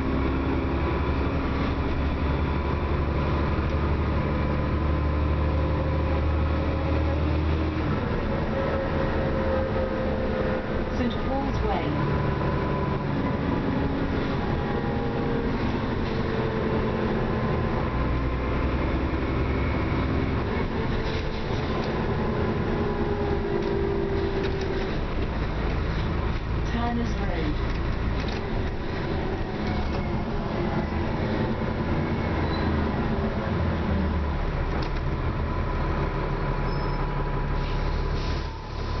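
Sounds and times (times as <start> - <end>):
bus engine and road drone: 0.0 - 39.0.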